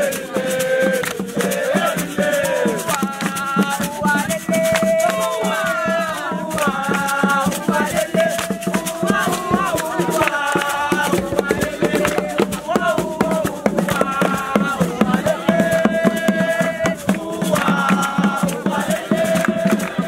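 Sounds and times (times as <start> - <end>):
people singing: 0.0 - 20.0
shaken rattles: 0.0 - 20.0.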